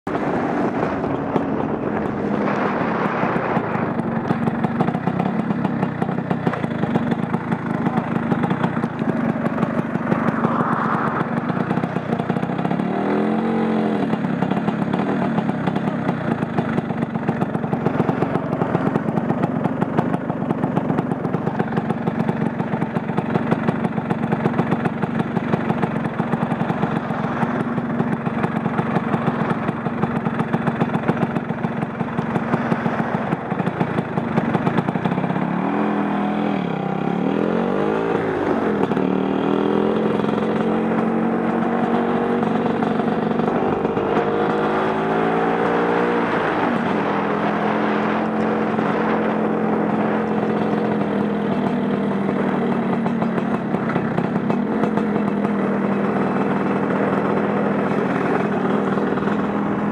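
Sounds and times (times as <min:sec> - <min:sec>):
scooter engine running: 0:00.0 - 0:59.9.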